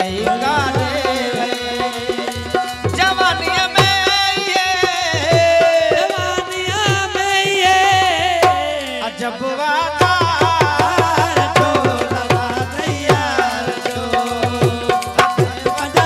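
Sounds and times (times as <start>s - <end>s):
hand drum rhythm: 0.0s - 8.8s, 10.0s - 16.0s.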